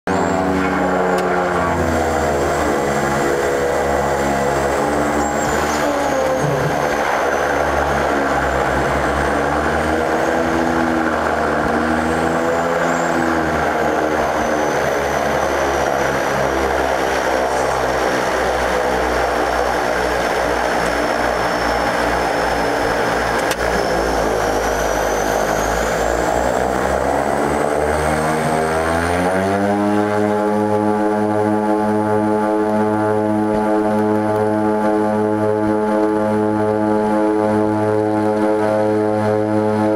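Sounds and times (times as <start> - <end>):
turboprop engines and propellers running: 0.0 - 39.9.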